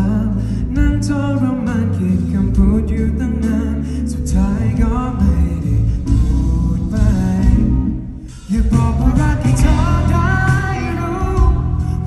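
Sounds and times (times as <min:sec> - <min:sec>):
live band music with heavy bass: 0:00.0 - 0:12.0
person singing: 0:00.0 - 0:12.0.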